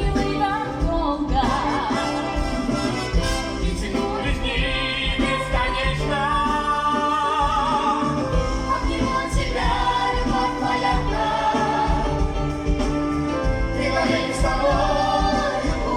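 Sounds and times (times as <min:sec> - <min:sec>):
woman singing: 0:00.0 - 0:02.8, 0:03.6 - 0:12.4, 0:13.8 - 0:15.9
band accompaniment with low beat: 0:00.0 - 0:15.9.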